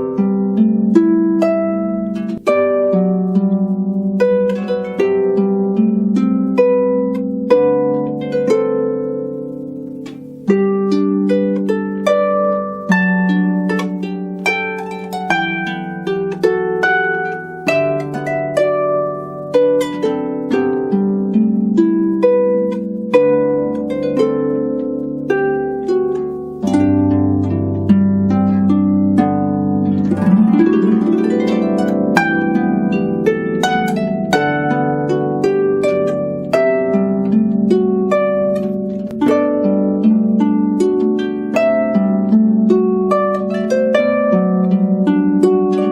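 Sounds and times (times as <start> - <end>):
harp glissando: 0.0 - 45.9
solo harp melody: 0.0 - 45.9.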